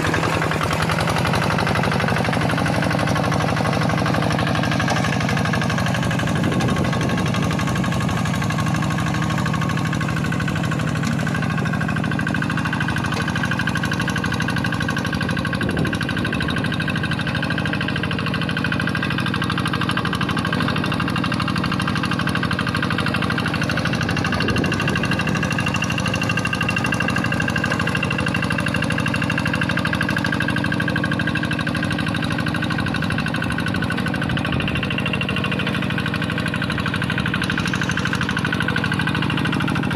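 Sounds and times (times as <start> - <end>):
diesel engine knocking under load: 0.0 - 39.9.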